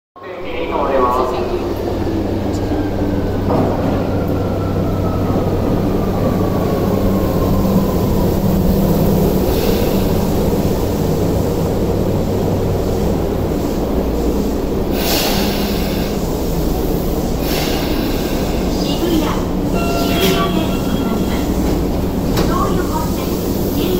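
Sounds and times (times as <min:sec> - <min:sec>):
subway train rumbling to a stop: 0:00.2 - 0:23.9.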